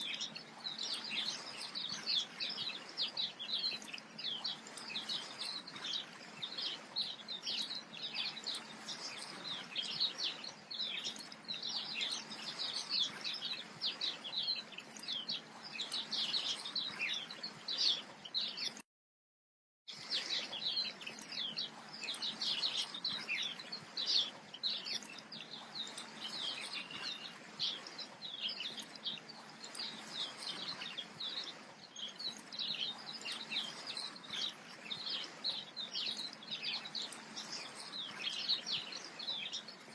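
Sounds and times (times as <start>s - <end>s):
small birds chirping and twittering: 0.0s - 18.8s, 19.9s - 39.9s.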